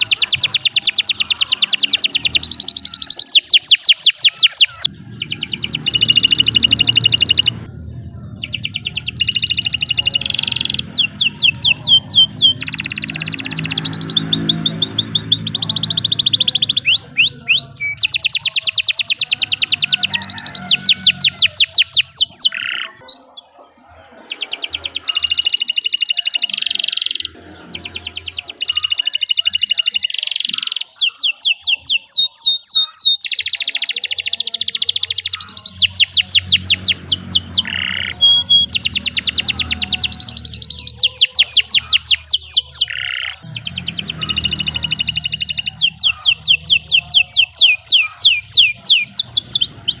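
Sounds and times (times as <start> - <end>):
canary singing trills: 0.0 - 50.0.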